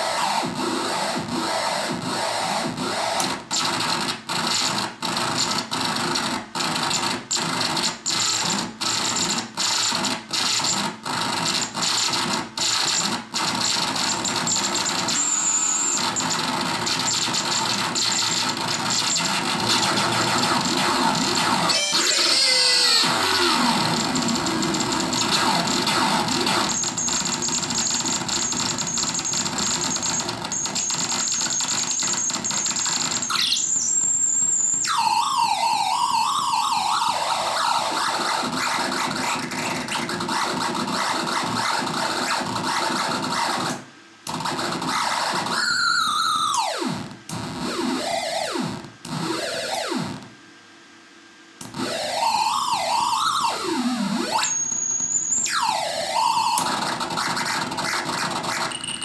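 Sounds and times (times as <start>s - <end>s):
synth buzzing noise with whine: 0.0s - 59.0s.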